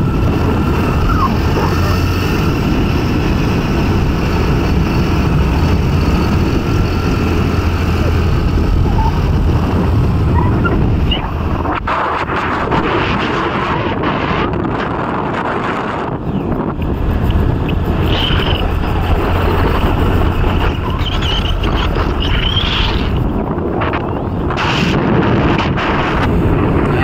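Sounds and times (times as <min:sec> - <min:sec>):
motor scooter engine hum: 0:00.0 - 0:27.0
wind on microphone: 0:00.0 - 0:27.0.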